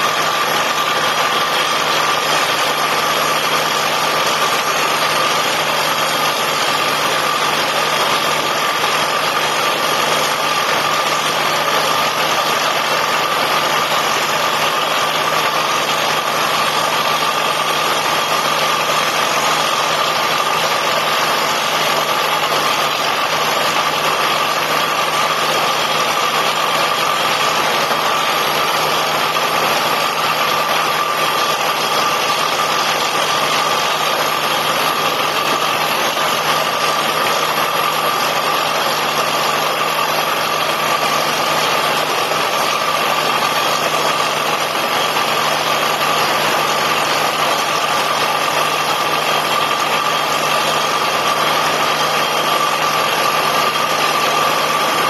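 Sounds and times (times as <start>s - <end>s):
drilling rig machinery drone: 0.0s - 55.0s.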